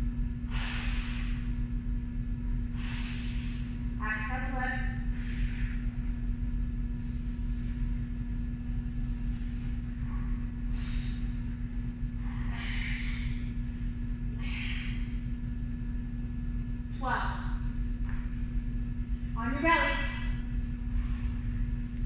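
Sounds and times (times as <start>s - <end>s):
steady low hum: 0.0s - 22.0s
woman breathing: 0.4s - 1.9s, 2.5s - 4.0s, 5.0s - 18.3s, 20.2s - 21.9s.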